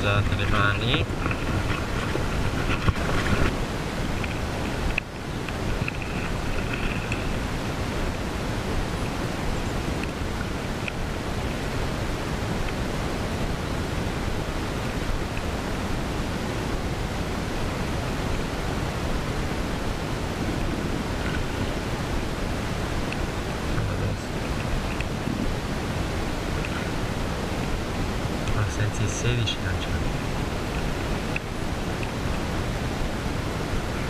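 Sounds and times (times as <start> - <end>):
river flowing over stones: 0.0 - 34.0.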